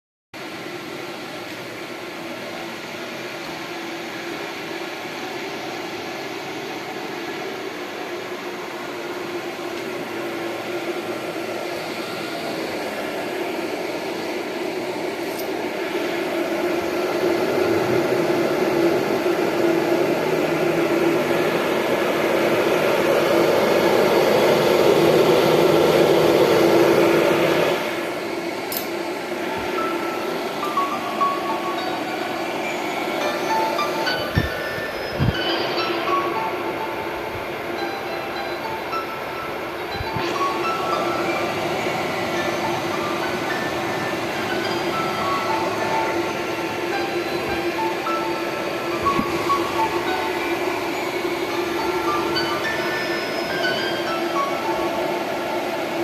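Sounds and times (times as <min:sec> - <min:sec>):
duct fan air rush: 0:00.4 - 0:56.0
fan motor hum: 0:00.4 - 0:56.0.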